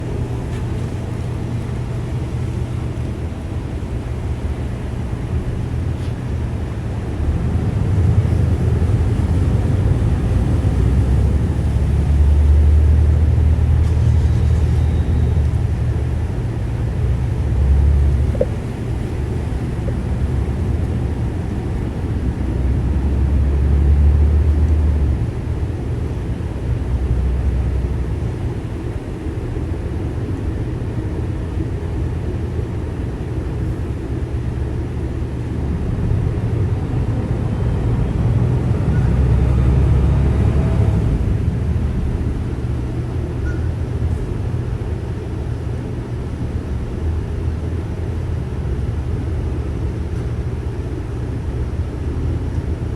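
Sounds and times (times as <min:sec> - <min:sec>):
boat motor rumble: 0:00.0 - 0:52.9.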